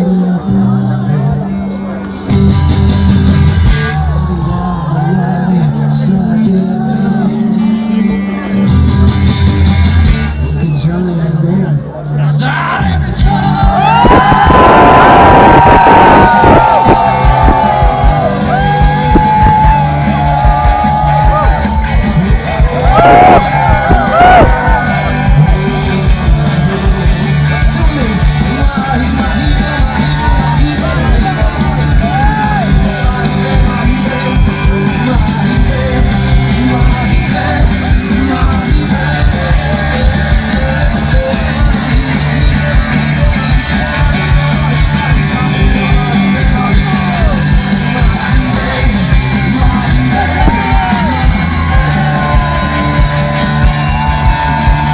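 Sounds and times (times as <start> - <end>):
lead vocal singing: 0.0 - 2.0, 3.9 - 8.6, 10.6 - 54.9
live rock band playing: 0.0 - 54.9.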